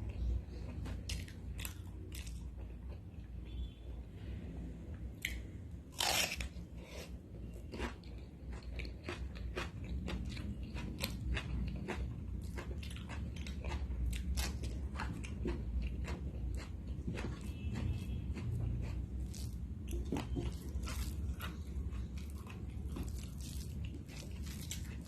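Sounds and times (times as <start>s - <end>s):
person chewing crunchy food: 0.0s - 3.0s, 5.2s - 25.0s.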